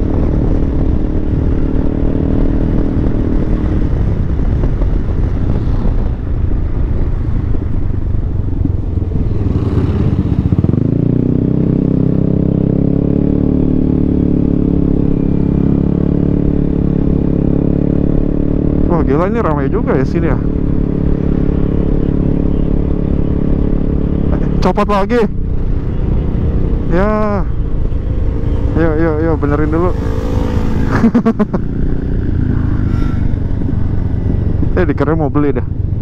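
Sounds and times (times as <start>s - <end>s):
wind rushing: 0.0s - 19.0s, 19.6s - 34.9s
scooter engine humming: 0.0s - 24.6s, 25.3s - 34.8s
road noise: 0.0s - 36.0s.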